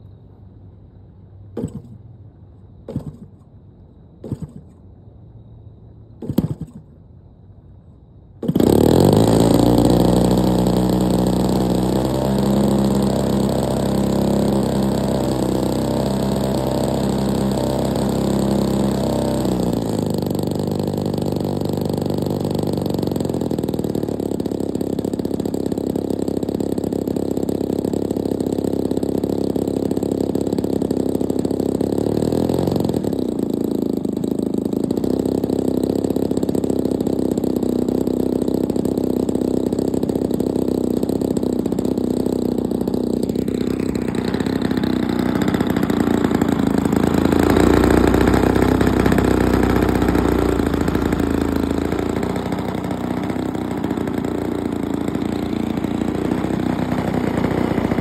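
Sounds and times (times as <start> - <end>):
engine pops: 1.5 - 3.6, 4.2 - 4.9, 6.1 - 7.0, 8.4 - 58.0
model plane engine starting: 1.6 - 2.0, 2.9 - 3.4, 4.2 - 4.8, 6.2 - 6.9, 8.4 - 58.0.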